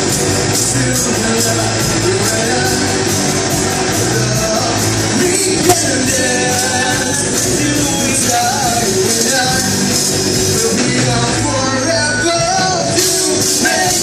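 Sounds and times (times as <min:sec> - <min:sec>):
bass guitar: 0:00.0 - 0:14.0
drum kit: 0:00.0 - 0:14.0
electric guitars: 0:00.0 - 0:14.0
person singing: 0:00.0 - 0:14.0.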